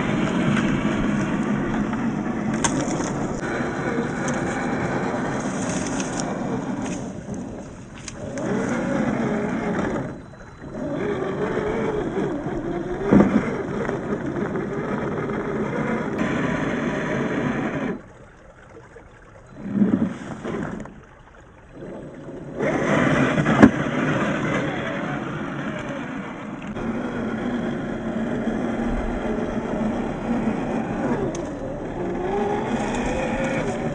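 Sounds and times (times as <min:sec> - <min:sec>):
electric motor whining: 0:00.0 - 0:18.0, 0:21.8 - 0:33.9.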